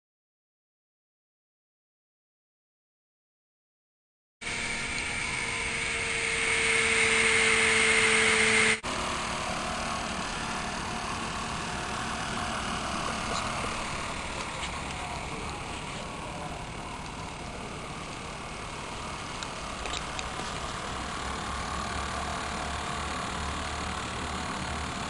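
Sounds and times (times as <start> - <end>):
electric motor propeller whirring: 4.4 - 25.0.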